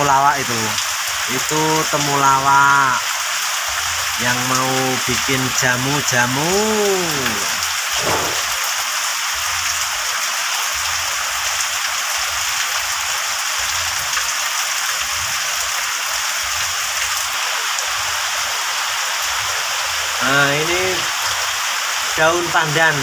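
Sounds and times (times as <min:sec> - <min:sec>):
heavy rain on plants: 0:00.0 - 0:23.0.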